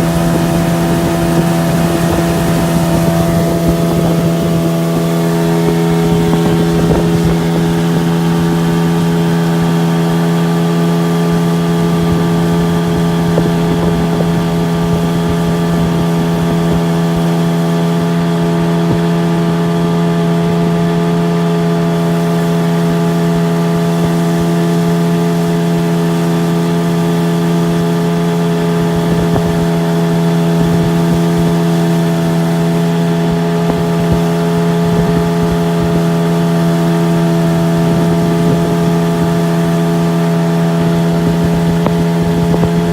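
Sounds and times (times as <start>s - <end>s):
outboard motor droning: 0.0s - 42.9s
wind buffeting microphone: 0.0s - 42.9s.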